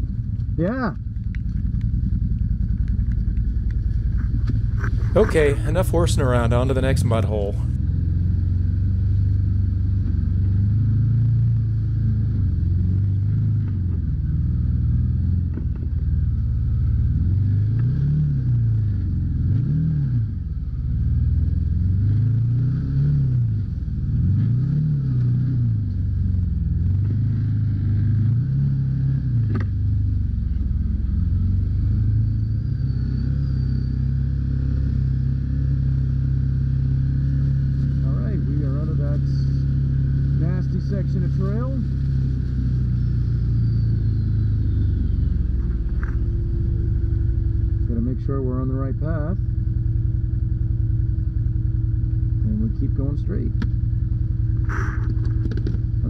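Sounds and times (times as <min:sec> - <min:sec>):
utv engine revving: 0:00.0 - 0:56.0.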